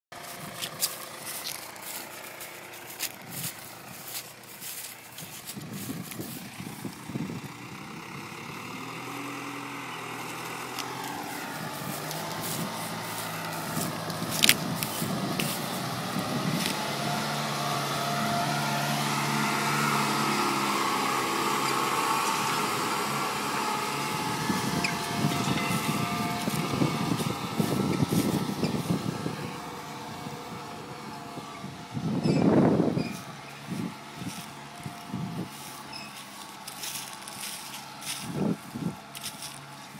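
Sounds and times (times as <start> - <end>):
tractor engine under load: 0.1 - 39.9.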